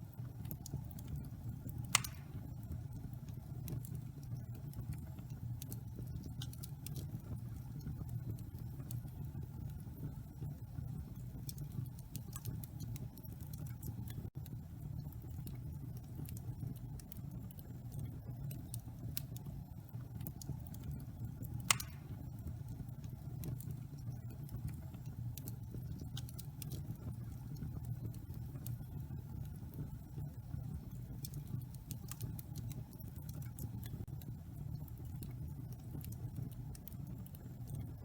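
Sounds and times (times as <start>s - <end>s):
wood fire crackling in fireplace: 0.0s - 38.0s.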